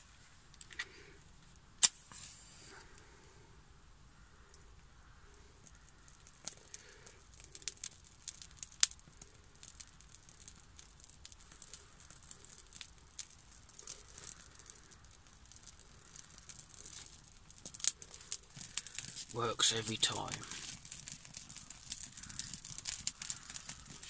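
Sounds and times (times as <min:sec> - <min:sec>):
small fire crackling and popping: 0:00.0 - 0:24.0.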